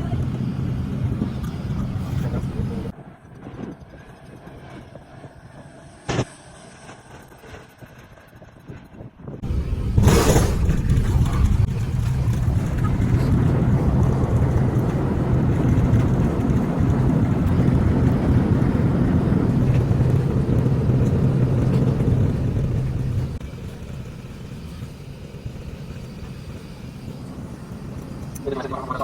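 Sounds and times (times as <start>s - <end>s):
jet landing rumble: 0.0s - 29.0s.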